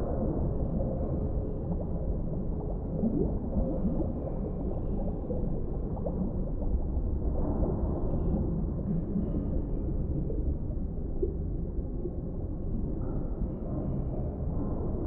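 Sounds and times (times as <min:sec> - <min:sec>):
low underwater rumble: 0:00.0 - 0:15.0
rising gurgles: 0:00.0 - 0:15.0.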